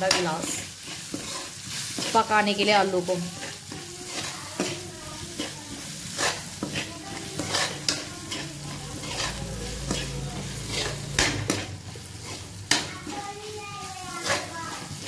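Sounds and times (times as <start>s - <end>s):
metal spatula scraping pan: 0.0s - 15.0s
potatoes sizzling in oil: 0.0s - 15.0s.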